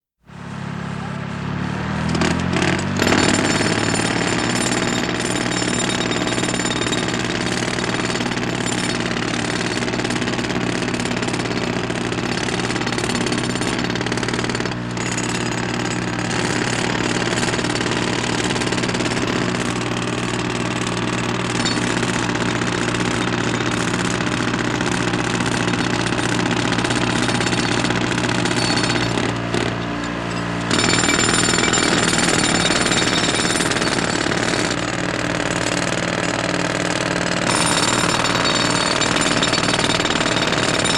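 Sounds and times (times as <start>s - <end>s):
breaker hammering rapidly: 1.0s - 40.9s.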